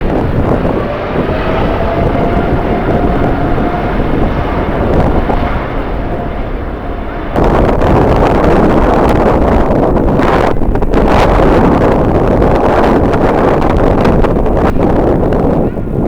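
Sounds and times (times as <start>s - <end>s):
distant jet engines whining: 0.0s - 16.0s
wind buffeting microphone: 0.0s - 16.0s.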